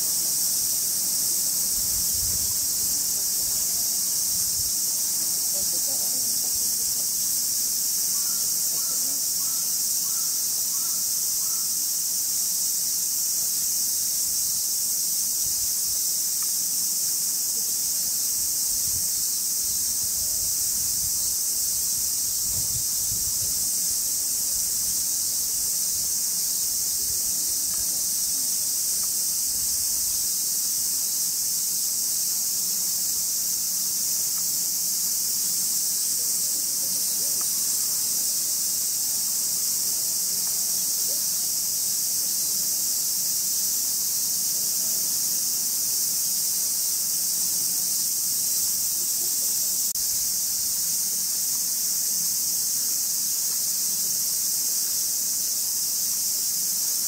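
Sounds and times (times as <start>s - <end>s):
cicadas chorus: 0.0s - 57.0s.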